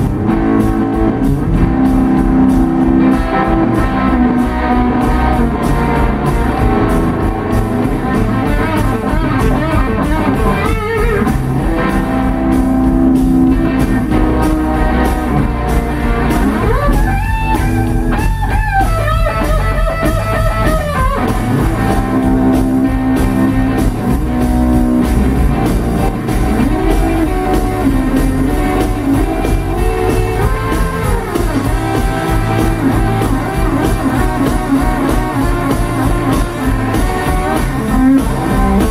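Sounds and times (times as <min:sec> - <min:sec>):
drum kit: 0:00.0 - 0:38.9
electric bass: 0:00.0 - 0:38.9
electric guitar lead: 0:00.0 - 0:38.9.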